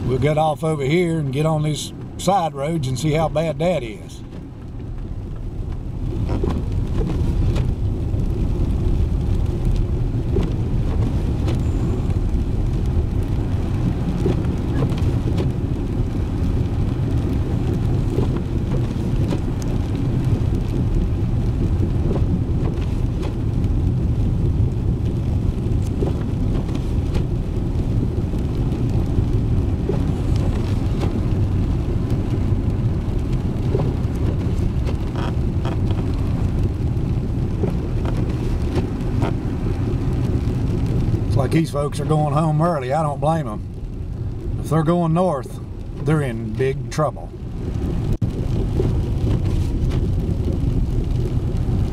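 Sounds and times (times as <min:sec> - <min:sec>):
truck engine and tyres rumbling: 0:00.0 - 0:51.9.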